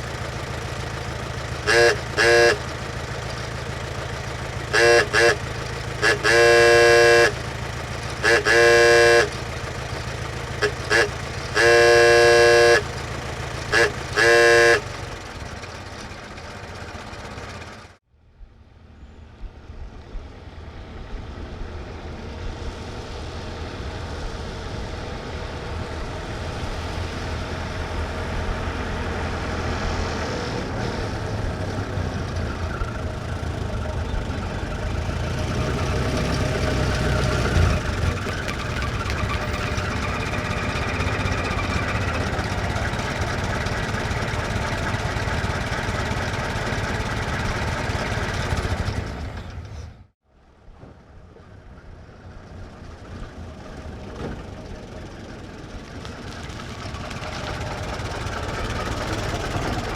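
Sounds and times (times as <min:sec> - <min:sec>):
truck engine idling: 0:00.0 - 0:18.0, 0:20.4 - 0:50.1, 0:51.4 - 0:59.9
truck approaching: 0:00.0 - 0:59.9.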